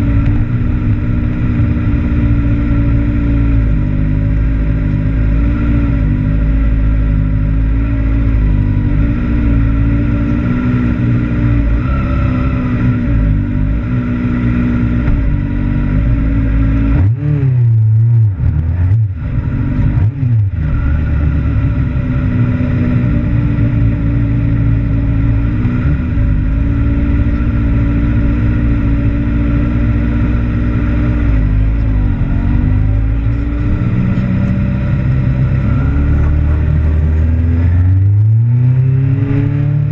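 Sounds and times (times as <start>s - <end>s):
engine throttle blips: 0.0s - 39.9s
motorcycle engine running: 0.0s - 39.9s.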